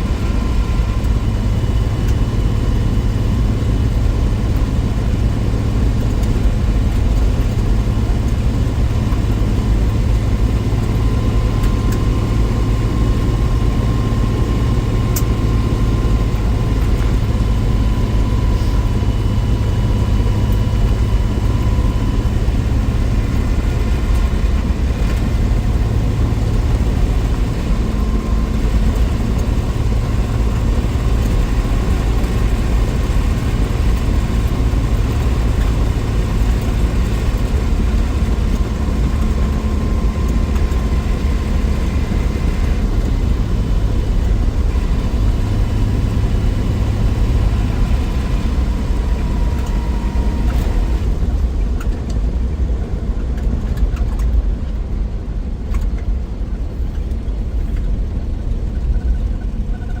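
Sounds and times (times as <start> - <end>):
car engine and road rumble: 0.0 - 60.0.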